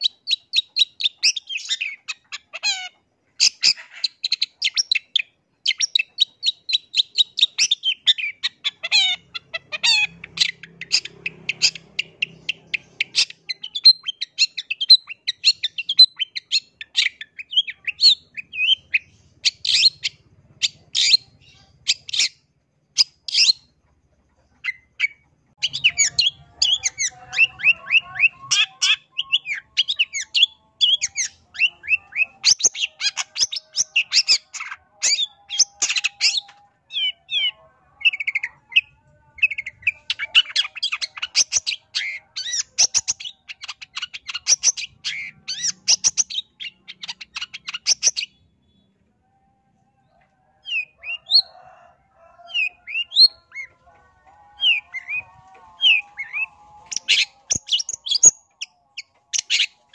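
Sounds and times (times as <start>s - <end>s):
bird chattering song and calls: 0.0s - 49.0s, 54.6s - 59.9s.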